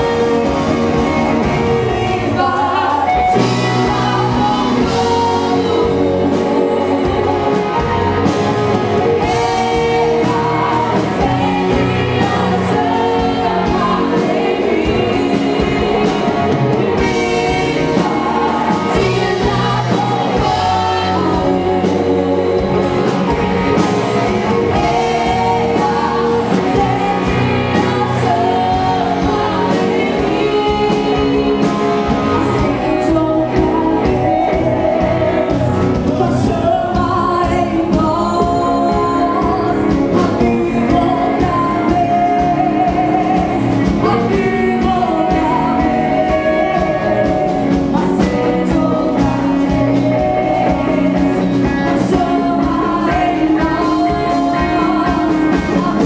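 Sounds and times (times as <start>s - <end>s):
singing over live band: 0.0s - 56.0s.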